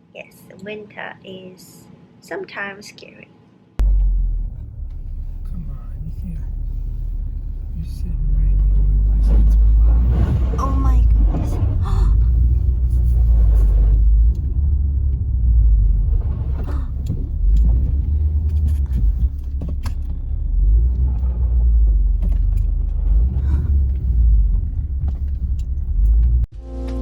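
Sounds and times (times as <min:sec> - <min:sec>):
car cabin rumble: 0:03.8 - 0:26.5.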